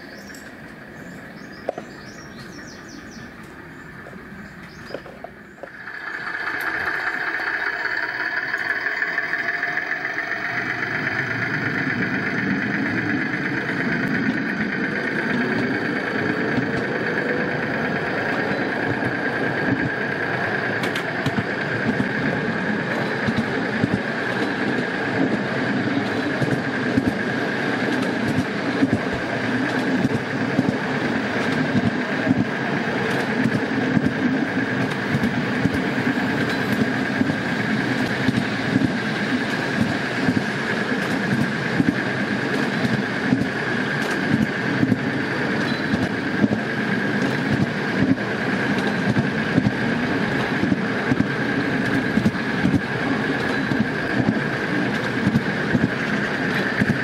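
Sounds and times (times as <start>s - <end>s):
electric locomotive motor whine: 0.0s - 57.0s
wheels clicking on rails: 0.0s - 57.0s.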